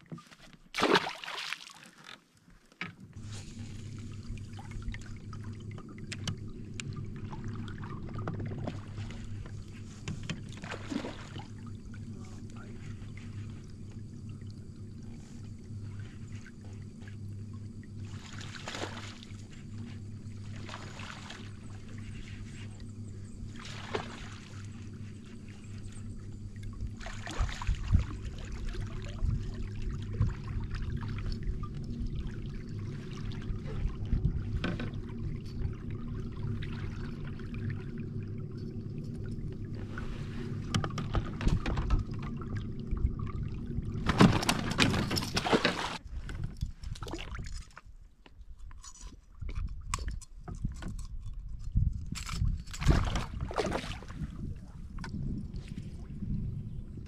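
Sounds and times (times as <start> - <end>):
water sloshing against kayak: 0.0 - 57.0
water splashes: 0.7 - 2.2, 3.2 - 22.8, 23.4 - 47.9, 52.7 - 56.2
steady low hum: 3.0 - 57.0.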